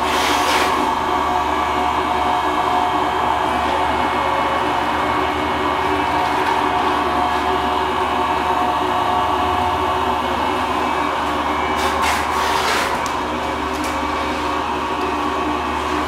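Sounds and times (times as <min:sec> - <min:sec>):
fish grinder motor hum: 0:00.0 - 0:16.0
harsh grinding noise: 0:00.0 - 0:16.0.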